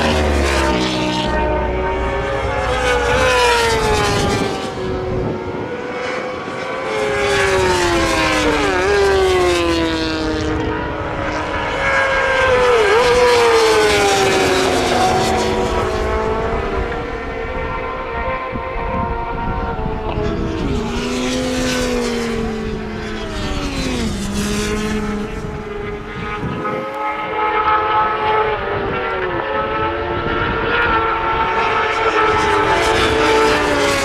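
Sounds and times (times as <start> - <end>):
racing motorcycles passing: 0.0 - 34.0.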